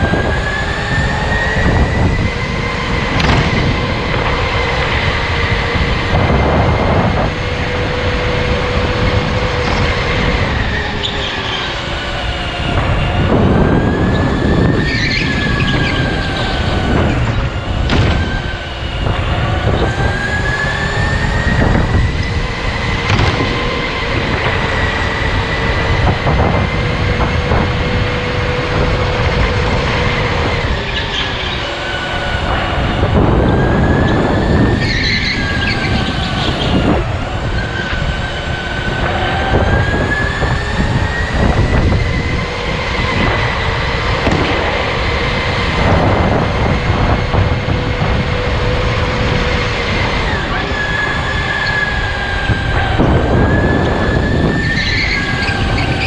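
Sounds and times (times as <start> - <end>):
electric go-kart motor whining: 0.0 - 56.0
low rumble: 0.0 - 56.0.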